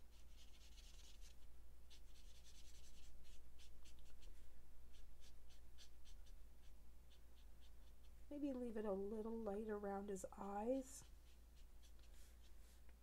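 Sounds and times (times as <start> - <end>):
marker scratching on cardstock: 0.0 - 8.6, 11.0 - 13.0.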